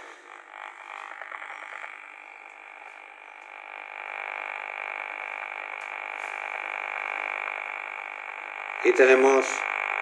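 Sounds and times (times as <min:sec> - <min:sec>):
electronic buzz with high tone: 0:00.0 - 0:10.0.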